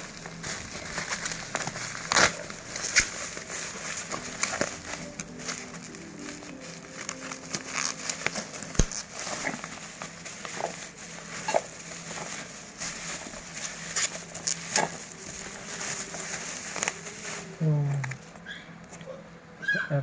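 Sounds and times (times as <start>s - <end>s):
packaging crackling and clicks: 0.0s - 18.4s.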